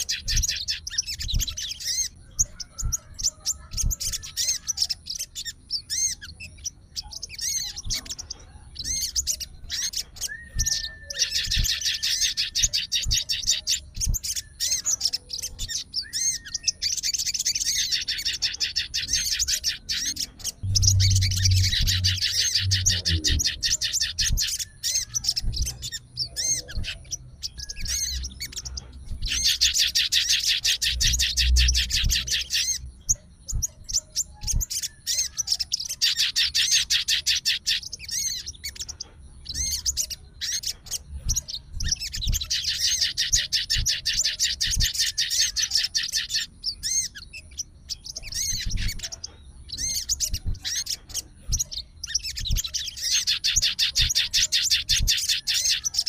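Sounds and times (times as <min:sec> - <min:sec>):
songbird chattering trills: 0:00.0 - 0:56.0.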